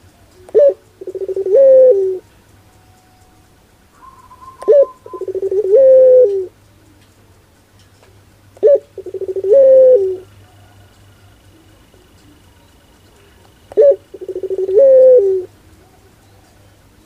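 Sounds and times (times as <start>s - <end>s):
dove cooing: 0.0s - 2.3s, 3.9s - 7.0s, 8.6s - 17.0s.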